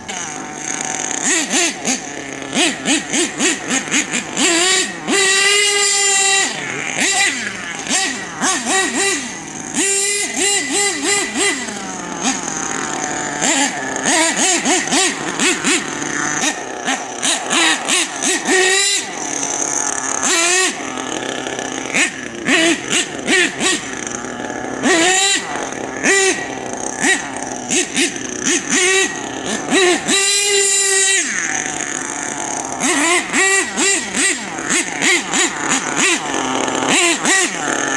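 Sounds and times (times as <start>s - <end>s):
small nitro engine revving: 0.0s - 37.9s.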